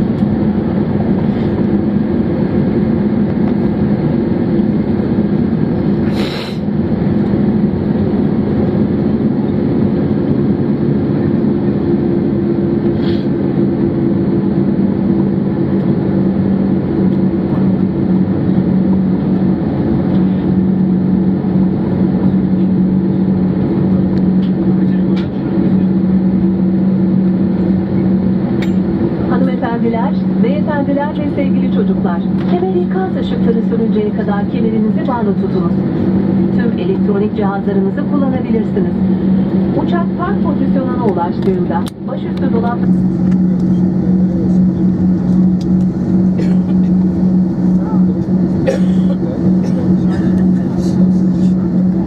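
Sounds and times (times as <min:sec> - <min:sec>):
aircraft rolling rumble: 0:00.0 - 0:52.0
jet engines humming: 0:00.0 - 0:52.0.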